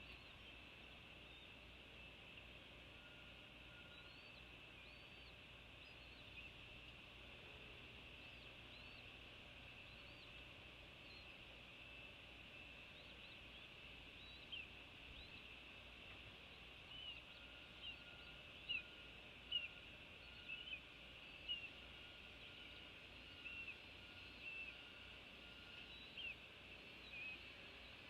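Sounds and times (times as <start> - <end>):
faint outdoor hiss: 0.0 - 28.0.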